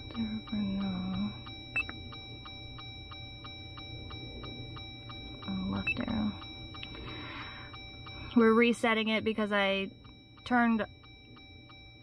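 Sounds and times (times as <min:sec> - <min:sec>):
rapid electronic ticking: 0:00.0 - 0:12.0.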